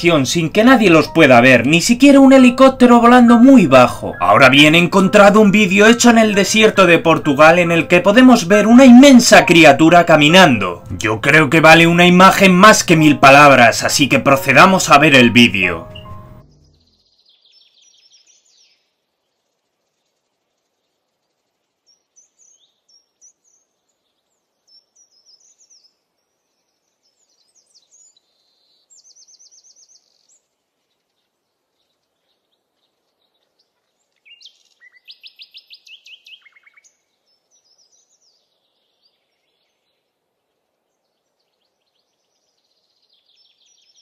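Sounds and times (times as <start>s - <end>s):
light outdoor hiss: 0.0s - 44.0s
small birds chirping: 0.0s - 44.0s.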